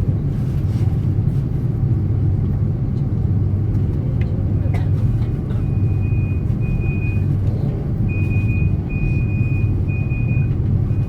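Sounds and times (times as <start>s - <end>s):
airliner cabin low rumble: 0.0s - 11.0s.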